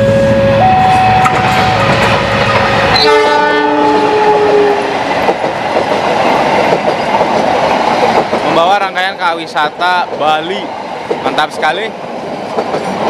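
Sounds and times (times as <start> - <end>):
train coaches rumbling and clattering: 0.0 - 13.0.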